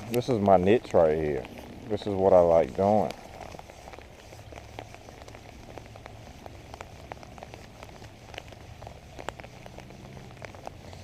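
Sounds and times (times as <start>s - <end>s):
rain patter: 0.0s - 11.0s.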